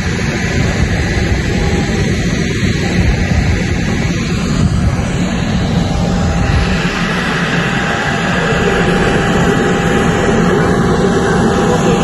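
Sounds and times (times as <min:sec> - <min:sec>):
aircraft engine running: 0:00.0 - 0:12.0
faint steady whine: 0:00.0 - 0:12.0.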